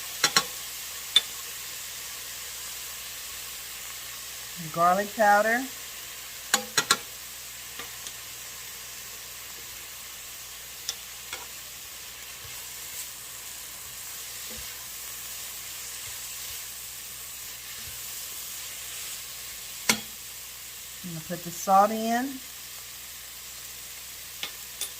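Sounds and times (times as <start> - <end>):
vegetables sizzling in a pot: 0.0 - 24.9.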